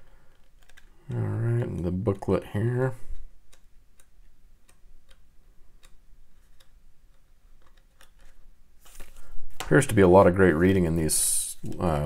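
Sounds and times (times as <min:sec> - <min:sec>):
pages flipping: 0:00.2 - 0:01.9, 0:03.1 - 0:12.0.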